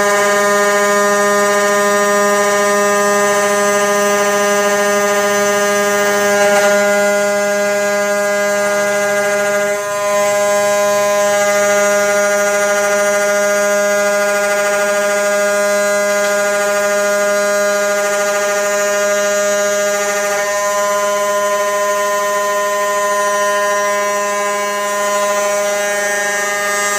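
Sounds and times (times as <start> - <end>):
router cutting aluminum whine: 0.0 - 26.9.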